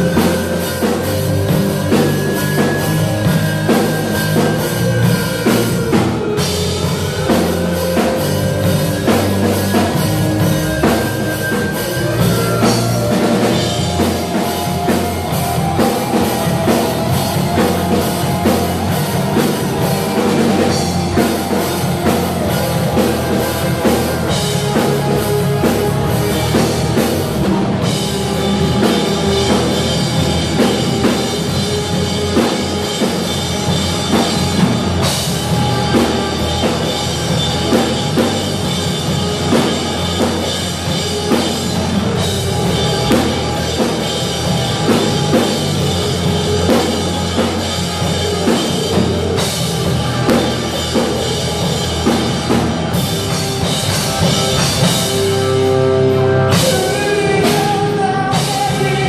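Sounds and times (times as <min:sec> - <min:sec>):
distorted electric guitars: 0:00.0 - 0:59.0
drum kit: 0:00.0 - 0:59.0.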